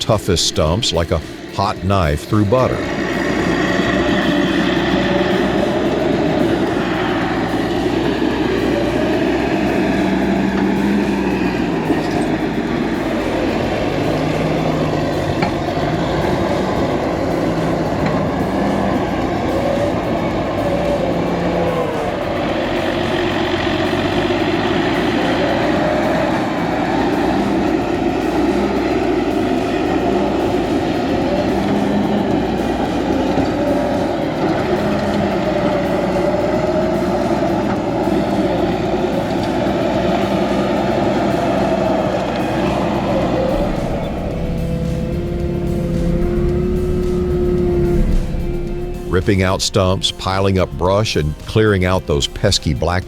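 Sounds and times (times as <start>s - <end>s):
bulldozer diesel engine under load: 0.0s - 53.0s.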